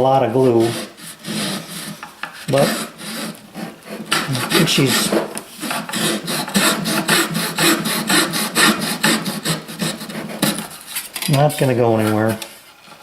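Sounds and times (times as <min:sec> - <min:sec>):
wood being sanded by hand: 0:00.1 - 0:10.9.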